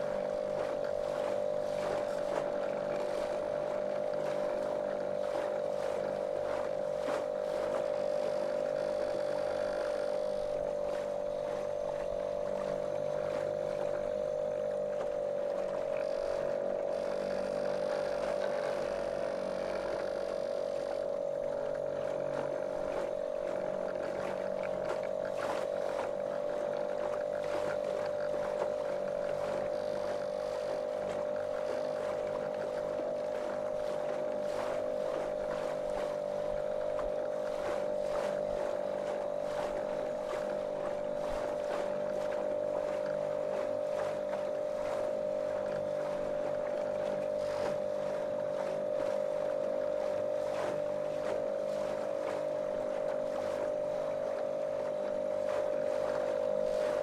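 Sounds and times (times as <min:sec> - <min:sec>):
motorboat motor droning: 0:00.0 - 0:57.0
water splashing against hull: 0:00.0 - 0:57.0.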